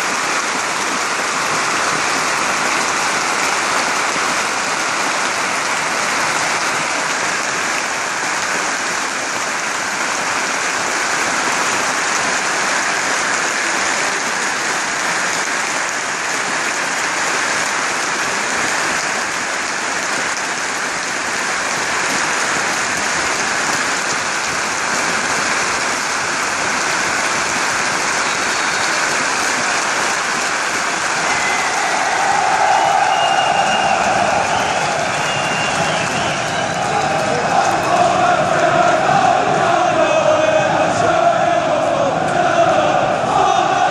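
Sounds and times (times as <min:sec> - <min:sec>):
stadium crowd applauding: 0:00.0 - 0:43.9.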